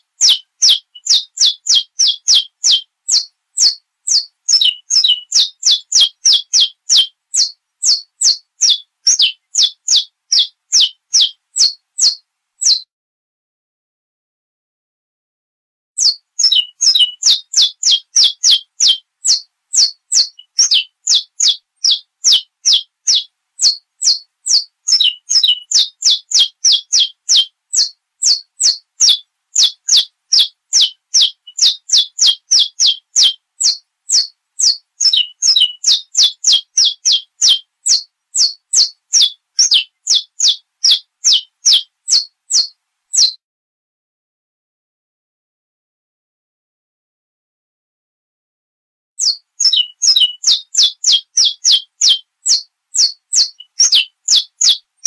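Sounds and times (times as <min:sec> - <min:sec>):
finch singing high whistled notes: 0:00.0 - 0:12.8, 0:16.0 - 0:43.4, 0:49.2 - 0:54.8.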